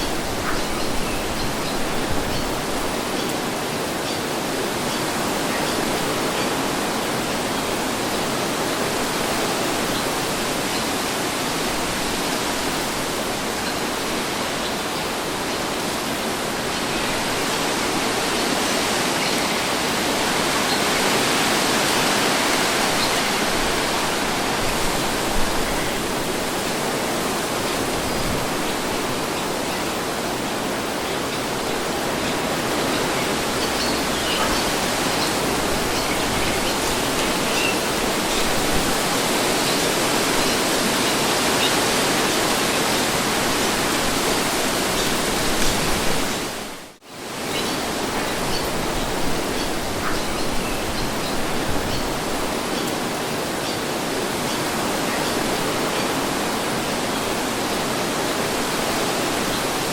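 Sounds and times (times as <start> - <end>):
wind blowing: 0.0 - 59.9.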